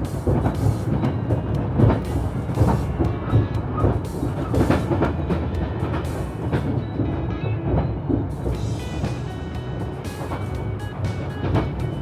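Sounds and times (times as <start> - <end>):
train interior rumble: 0.0 - 12.0
wheels clacking over rail joints: 0.0 - 12.0.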